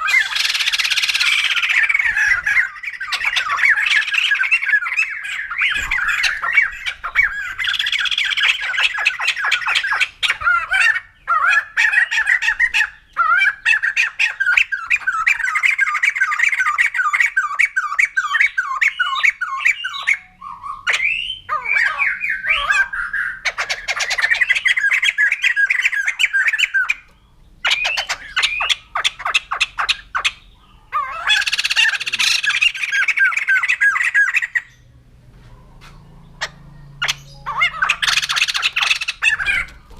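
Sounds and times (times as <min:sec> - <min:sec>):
laughingthrush chattering calls: 0:00.0 - 0:34.9, 0:36.3 - 0:39.9.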